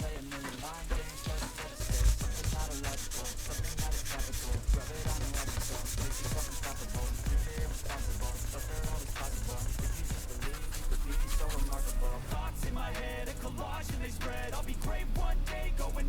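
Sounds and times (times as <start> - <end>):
abrasive rubbing strokes: 0.0 - 16.0.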